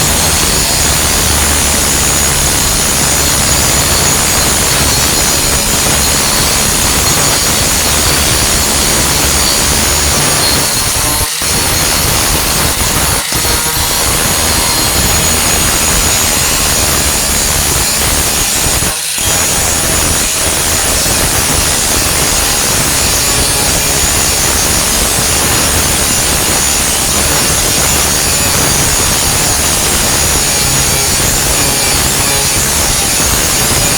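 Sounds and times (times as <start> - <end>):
angle grinder grinding metal: 0.0 - 33.9.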